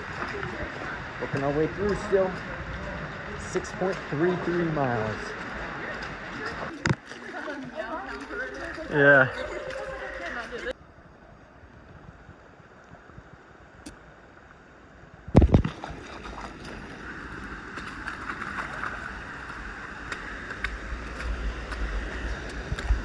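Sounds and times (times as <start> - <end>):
wind rumble on microphone: 0.0 - 7.0, 7.6 - 23.0
creek water rushing: 0.0 - 10.8, 12.5 - 23.0.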